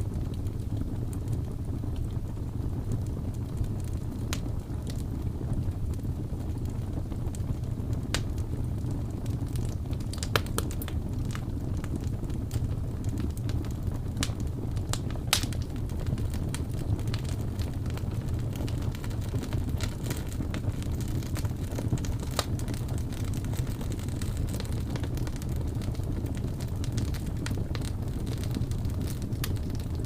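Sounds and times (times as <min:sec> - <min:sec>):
fire pops: 0:00.0 - 0:30.0
wood fire crackling: 0:00.0 - 0:30.0.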